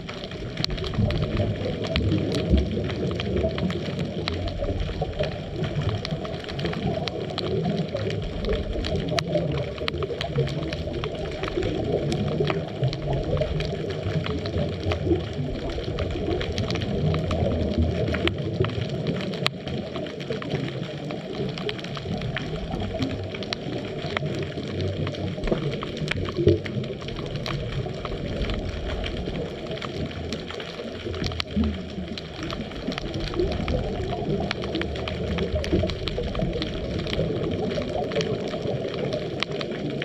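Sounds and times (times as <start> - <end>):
faint clicks and crackles: 0.0 - 40.0
muffled underwater water rush: 0.0 - 40.0.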